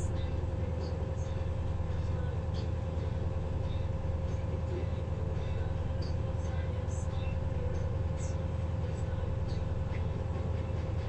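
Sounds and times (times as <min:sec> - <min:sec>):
ship diesel engine droning: 0:00.0 - 0:11.0.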